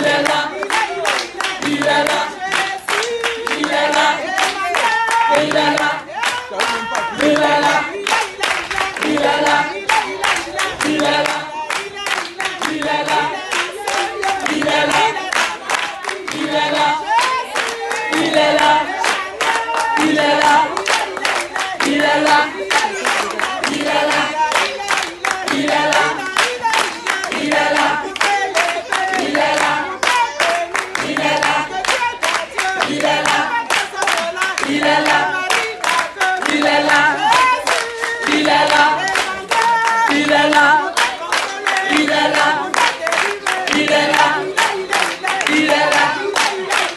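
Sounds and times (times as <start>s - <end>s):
group singing: 0.0s - 46.9s
rhythmic hand clapping: 0.0s - 46.9s.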